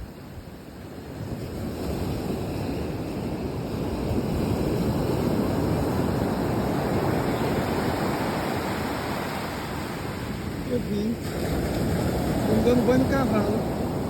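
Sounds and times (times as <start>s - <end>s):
sea waves washing on shore: 0.0s - 14.0s.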